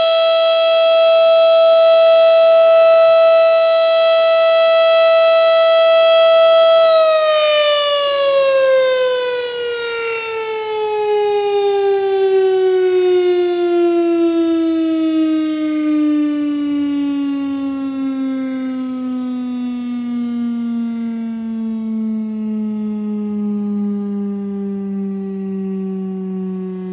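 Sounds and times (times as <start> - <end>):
mechanical siren winding down: 0.0 - 26.9.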